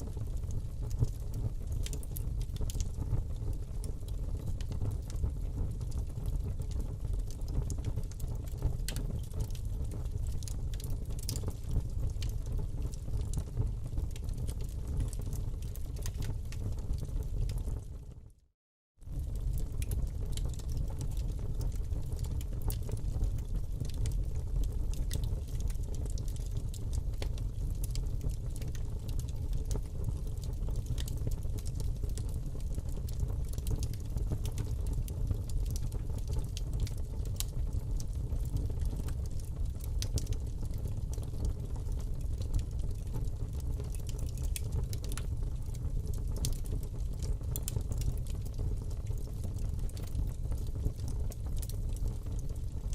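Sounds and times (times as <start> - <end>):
fire burning with crackles: 0.0 - 18.4, 19.0 - 52.9.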